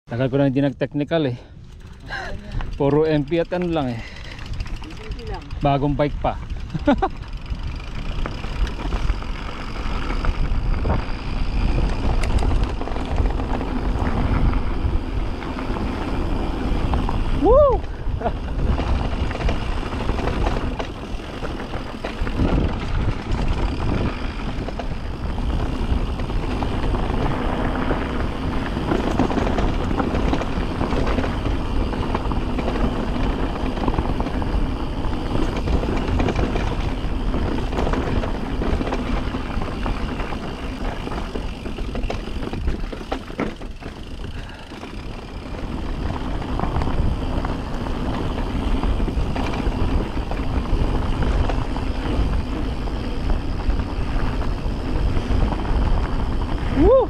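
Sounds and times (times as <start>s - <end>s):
wind rumbling on microphone: 0.0s - 57.0s
bike tyres rolling over rocks: 1.3s - 57.0s.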